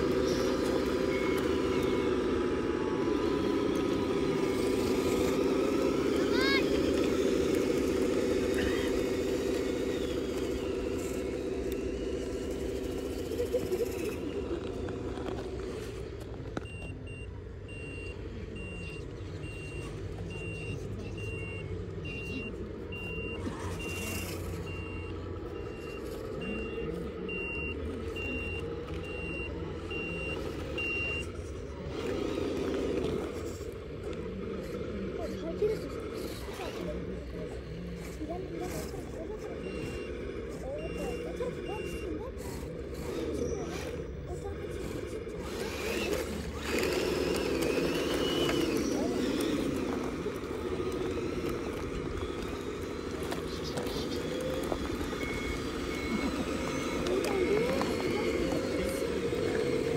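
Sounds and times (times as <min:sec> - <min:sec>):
reversing beeps: 0:00.0 - 0:06.6, 0:08.5 - 0:33.6, 0:37.6 - 0:59.9
model truck engine drone: 0:00.0 - 0:59.9.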